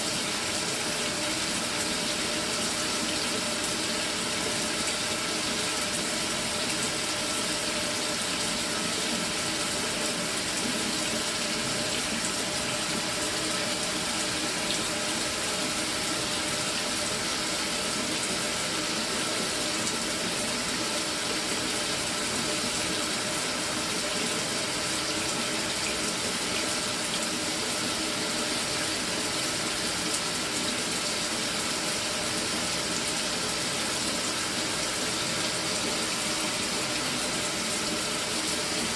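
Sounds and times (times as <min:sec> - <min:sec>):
shower water running: 0:00.0 - 0:38.9.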